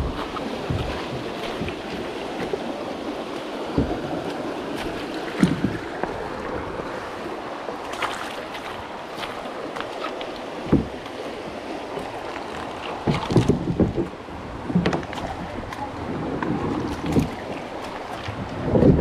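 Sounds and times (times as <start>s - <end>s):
creek water rushing over rocks: 0.0s - 19.0s
paddle thumps and splashes: 0.0s - 19.0s.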